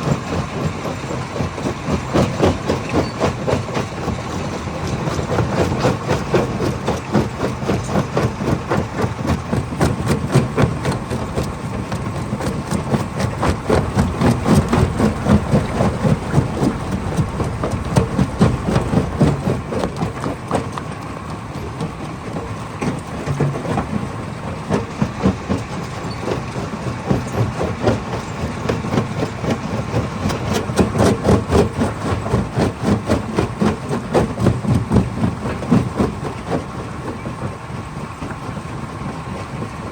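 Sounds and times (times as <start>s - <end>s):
machine rumble: 0.0s - 32.0s.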